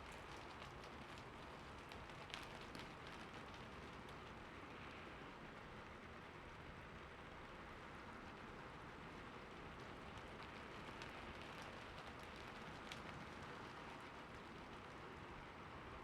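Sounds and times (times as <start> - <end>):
rain falling on a roof: 0.0 - 16.0.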